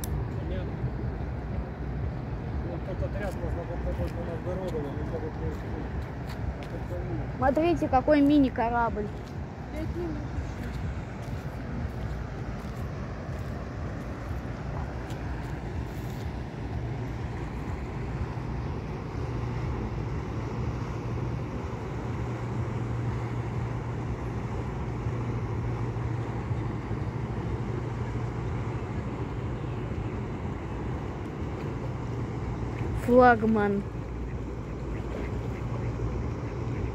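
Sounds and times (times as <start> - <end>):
boat engine drone: 0.0 - 36.9
water rushing: 0.0 - 36.9
wind: 0.0 - 36.9.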